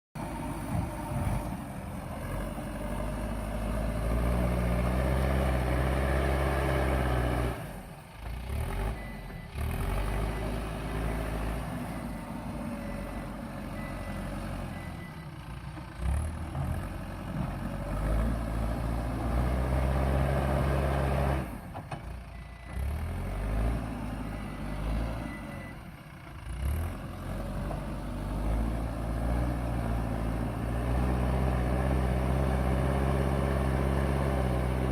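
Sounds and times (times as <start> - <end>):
diesel engine revving: 0.2 - 34.9.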